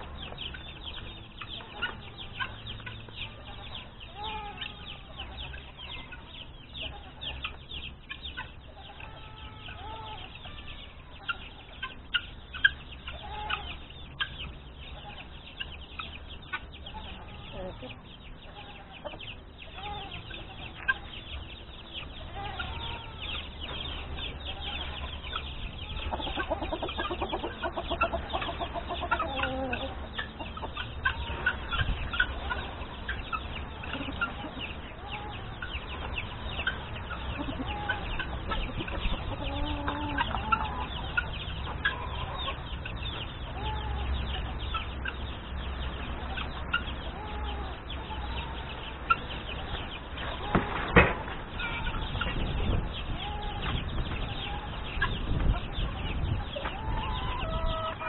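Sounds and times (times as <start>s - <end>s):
chickens clucking: 0.0s - 58.0s
small birds chirping: 0.0s - 58.0s.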